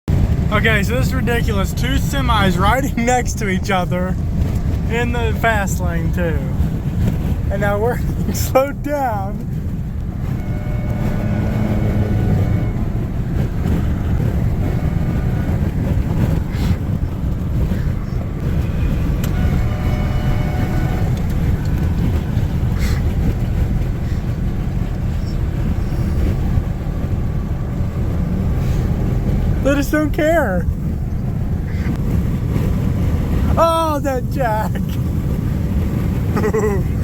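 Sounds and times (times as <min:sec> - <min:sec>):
vehicle interior road rumble: 0:00.0 - 0:37.0.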